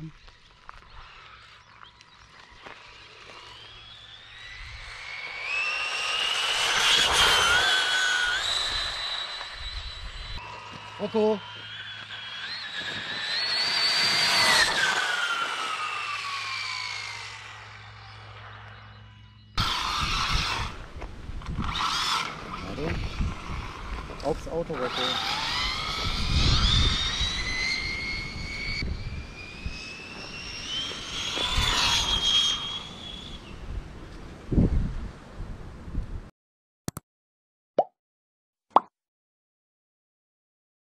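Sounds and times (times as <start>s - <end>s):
rc car motor whine passing by: 0.1s - 34.5s.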